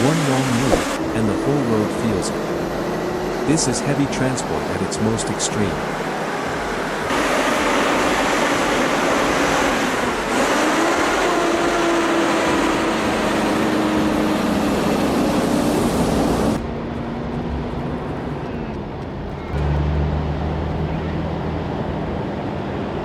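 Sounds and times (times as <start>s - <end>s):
road and wind noise: 0.0s - 23.0s
truck engine drone: 0.0s - 23.0s.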